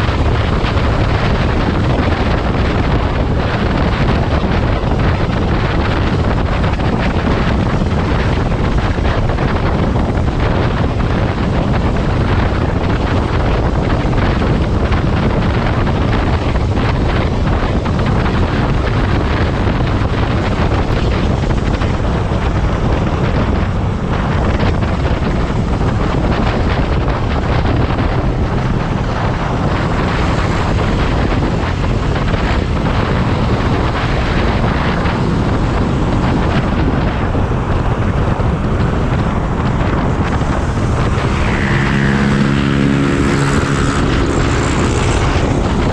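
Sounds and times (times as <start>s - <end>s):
motorcycle engine: 0.0s - 45.9s
wind rushing over microphone: 0.0s - 45.9s.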